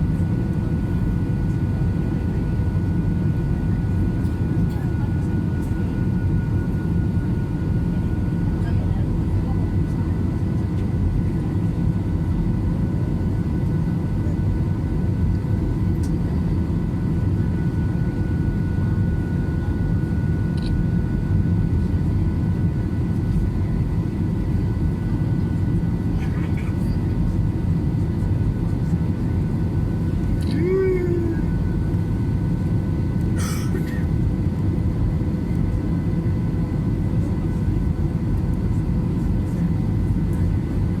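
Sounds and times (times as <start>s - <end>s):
airplane engine rumble: 0.0s - 41.0s.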